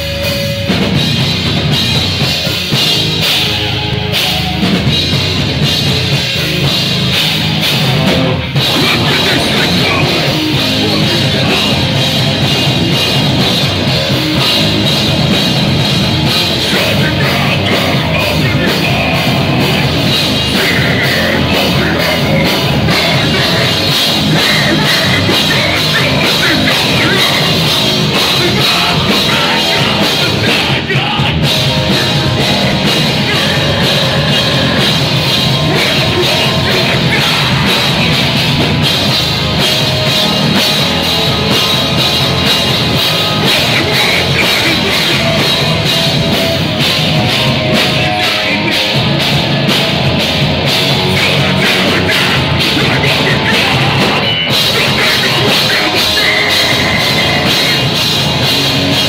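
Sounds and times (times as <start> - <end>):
heavy metal band playing live: 0.0 - 59.0
vocals through pa: 8.0 - 58.6.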